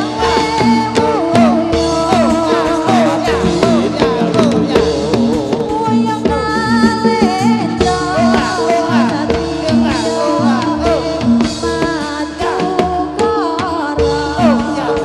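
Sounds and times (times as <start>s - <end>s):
drum strikes: 0.0s - 15.0s
pitched percussion notes: 0.0s - 15.0s
sliding melody line: 0.0s - 15.0s.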